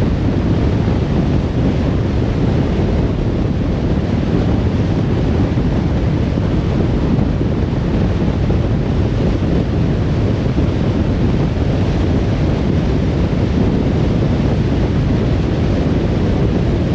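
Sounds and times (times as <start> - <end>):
wind rush: 0.0 - 16.9.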